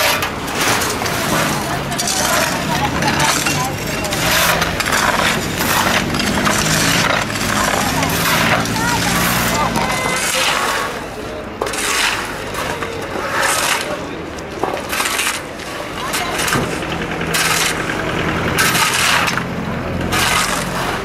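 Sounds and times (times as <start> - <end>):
shovels scraping gravel: 0.0 - 21.0.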